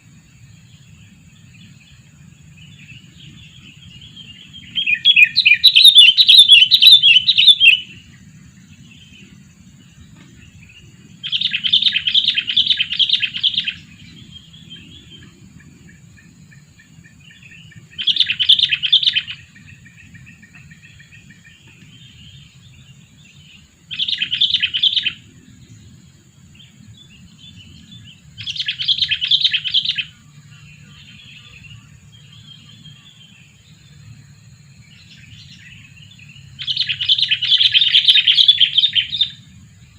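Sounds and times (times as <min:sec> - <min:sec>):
soft bird calls: 0:00.0 - 0:39.9
bulbul chattering calls: 0:00.7 - 0:09.4, 0:10.0 - 0:25.4, 0:26.6 - 0:34.0, 0:34.9 - 0:39.5.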